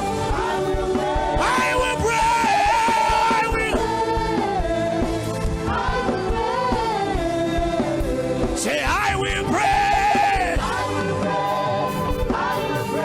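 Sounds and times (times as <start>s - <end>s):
steady bass: 0.0s - 13.0s.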